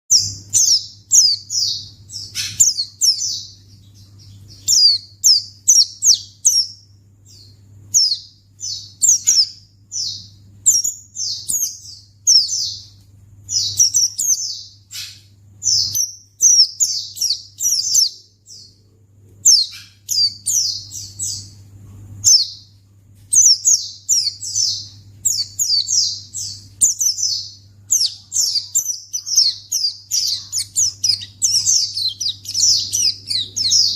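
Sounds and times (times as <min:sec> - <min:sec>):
bird chirping song: 0:00.1 - 0:33.9
steady low hum: 0:00.1 - 0:33.9.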